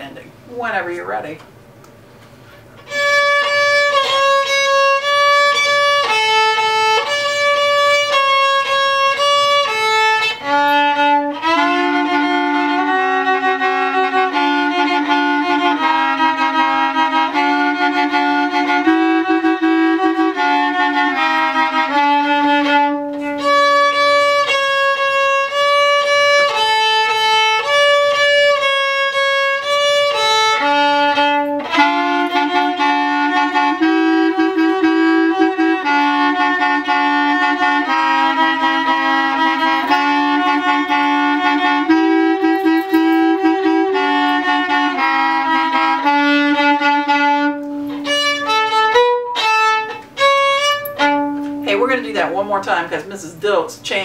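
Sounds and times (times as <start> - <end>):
clarinet harmony: 2.8 - 51.7
violin playing lively melody: 2.8 - 54.0.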